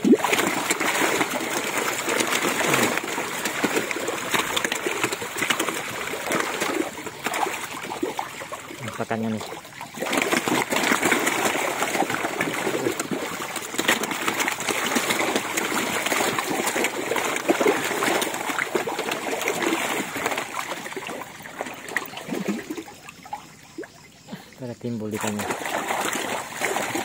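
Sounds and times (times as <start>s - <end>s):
fish splashing at water surface: 0.0s - 27.0s.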